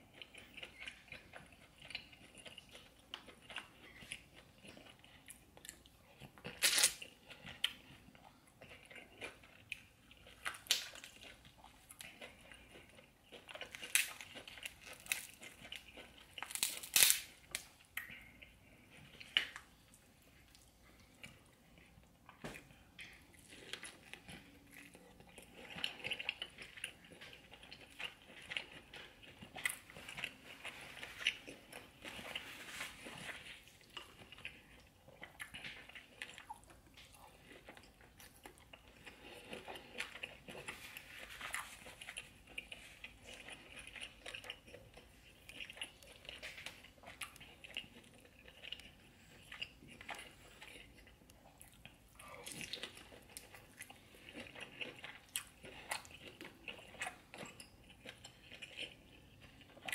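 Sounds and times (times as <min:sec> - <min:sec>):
chewing and biting seafood: 0:00.0 - 0:59.9.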